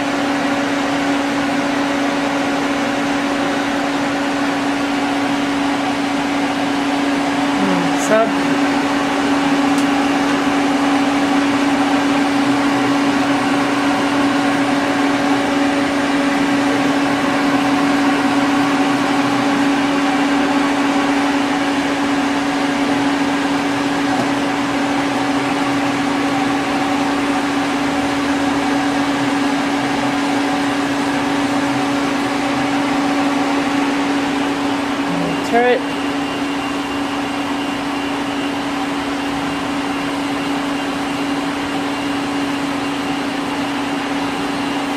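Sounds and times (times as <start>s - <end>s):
lathe humming and whirring: 0.0s - 44.9s.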